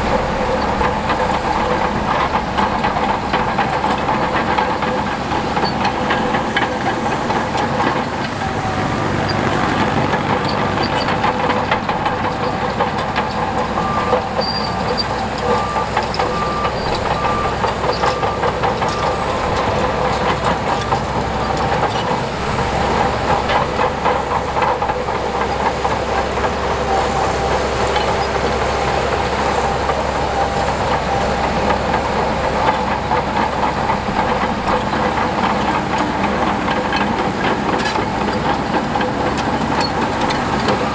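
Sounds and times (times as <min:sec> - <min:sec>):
heavy diesel machinery running: 0:00.0 - 0:40.9
steel crawler tracks clanking: 0:00.0 - 0:40.9.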